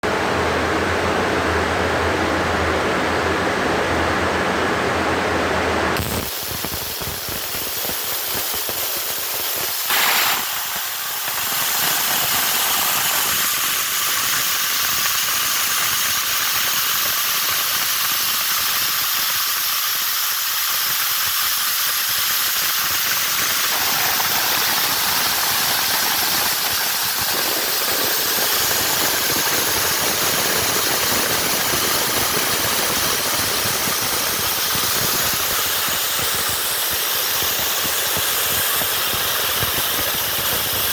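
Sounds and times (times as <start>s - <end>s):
plasma cutter hissing: 6.0s - 40.9s.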